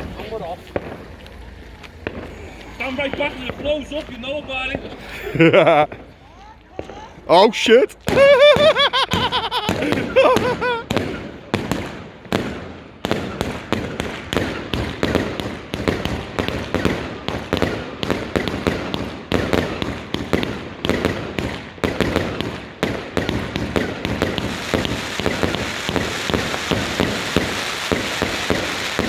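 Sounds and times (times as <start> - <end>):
fireworks banging: 0.0 - 29.0.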